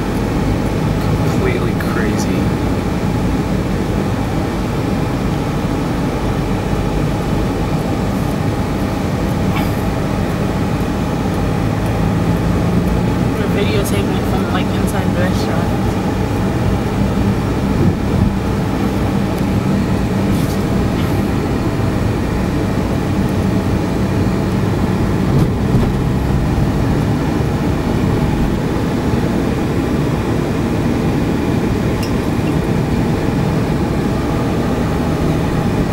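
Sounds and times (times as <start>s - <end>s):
car engine and road noise: 0.0s - 35.9s.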